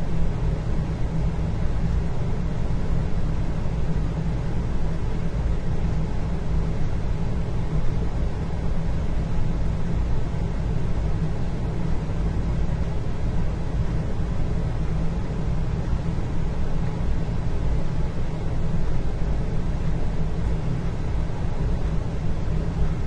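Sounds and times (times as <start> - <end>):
low rumble and hum: 0.0 - 23.0.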